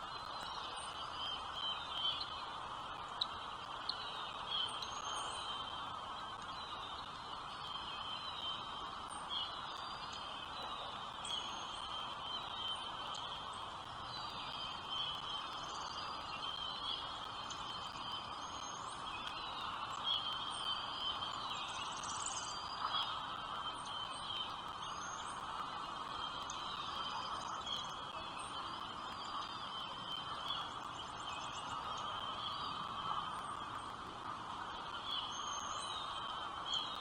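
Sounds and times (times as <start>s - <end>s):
steady background hiss: 0.0s - 37.0s
small birds chirping: 0.1s - 37.0s.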